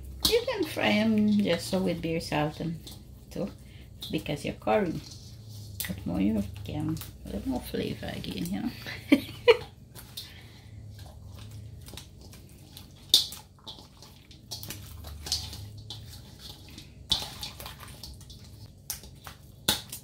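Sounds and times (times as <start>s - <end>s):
hands squelching fish in bowl: 0.0s - 20.0s.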